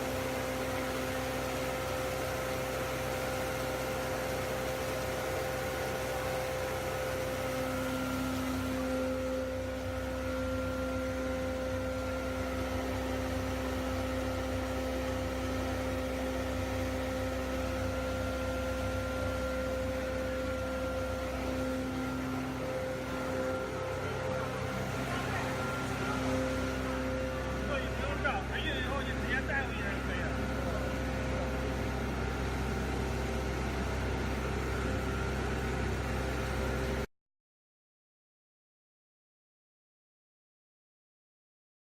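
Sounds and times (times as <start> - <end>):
powder mill machine humming: 0.0 - 37.1.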